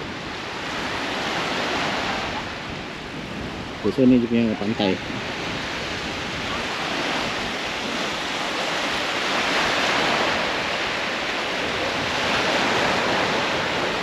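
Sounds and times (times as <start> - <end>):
waves washing onto beach: 0.0 - 14.0.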